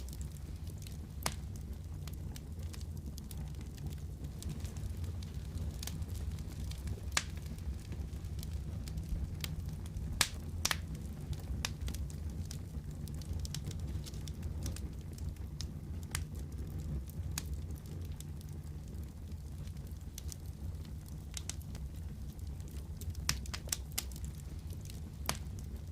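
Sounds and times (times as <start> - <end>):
fire popping: 0.0 - 25.9
low rumble of flame: 0.0 - 25.9
wood fire crackling: 0.0 - 25.9.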